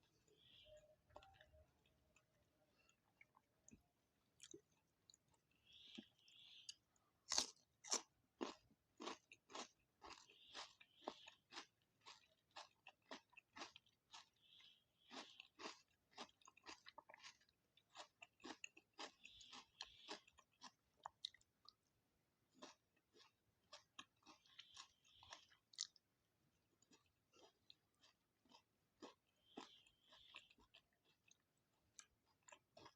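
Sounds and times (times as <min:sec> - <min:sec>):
crunchy chewing of fried food: 0:00.0 - 0:32.9.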